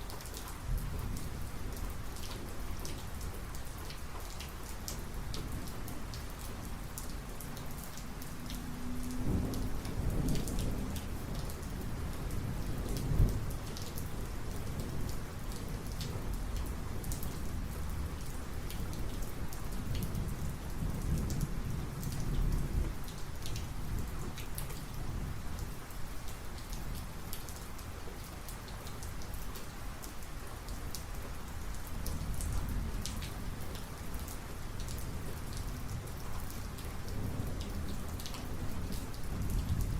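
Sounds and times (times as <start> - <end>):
heavy rain spattering: 0.0 - 39.9.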